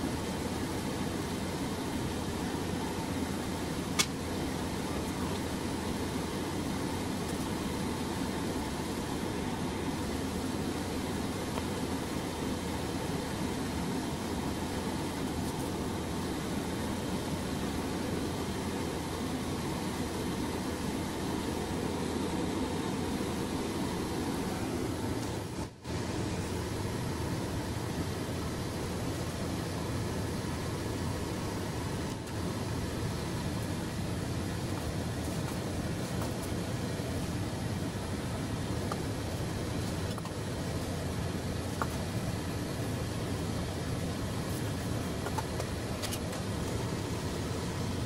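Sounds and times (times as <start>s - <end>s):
feeder mechanical hum: 0.0s - 48.0s.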